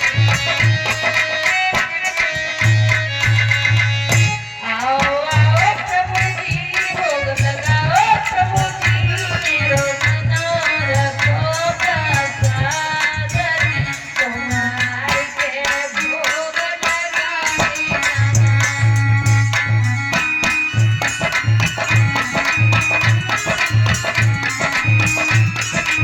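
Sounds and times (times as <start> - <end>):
hand drum rhythm: 0.0 - 26.0
jingling percussion: 0.0 - 26.0.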